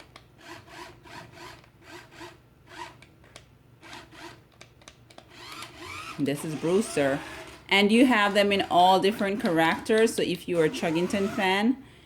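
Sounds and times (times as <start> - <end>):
toy train motor grinding: 0.0 - 3.0, 3.8 - 4.4, 5.3 - 11.6.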